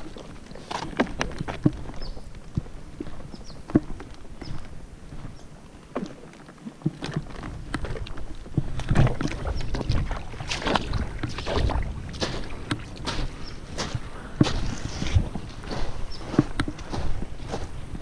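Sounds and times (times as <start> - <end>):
footsteps on mud: 0.0 - 18.0
footsteps wading through water: 0.0 - 18.0
water splashing: 0.0 - 18.0.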